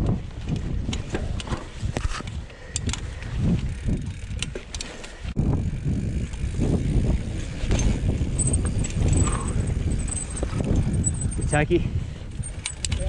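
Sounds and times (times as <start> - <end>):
mountain bike rolling over rocks: 0.0 - 11.6
sharp clicks and rattles: 0.5 - 5.4, 6.0 - 11.6, 12.3 - 13.0.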